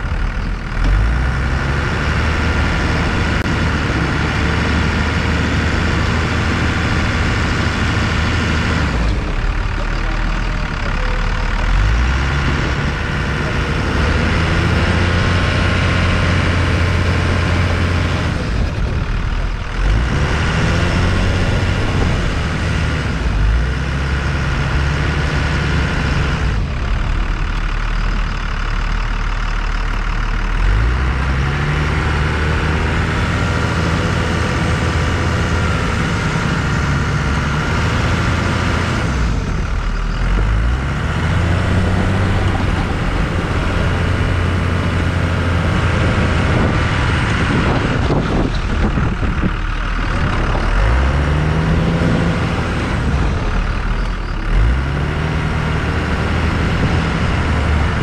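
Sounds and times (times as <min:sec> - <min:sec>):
truck engine revving under load: 0:00.0 - 0:58.0.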